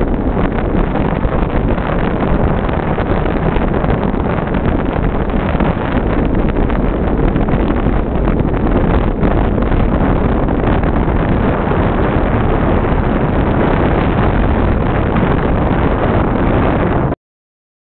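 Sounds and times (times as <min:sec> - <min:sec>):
vehicle moving on paved road: 0:00.0 - 0:17.2
wind rumble on microphone: 0:00.0 - 0:17.2.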